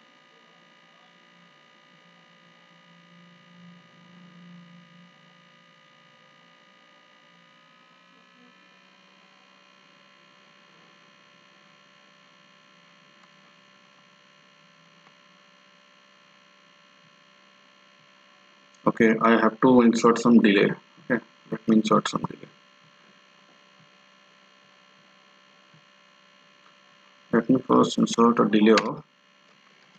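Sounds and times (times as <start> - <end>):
faint electrical hum: 0.0 - 29.9.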